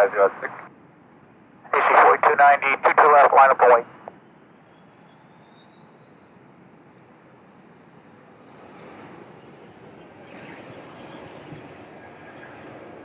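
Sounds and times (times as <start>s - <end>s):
jet engine rumble and whine: 0.0s - 13.0s.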